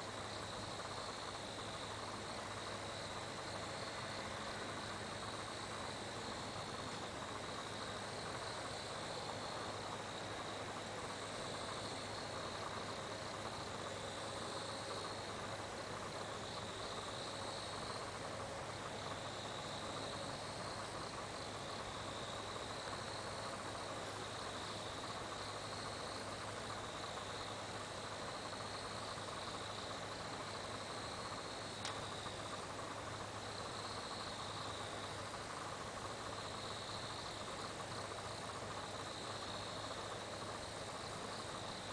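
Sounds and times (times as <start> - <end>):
crickets trilling: 0.0 - 41.9
faint hiss: 0.0 - 41.9
low steady hum: 0.0 - 41.9.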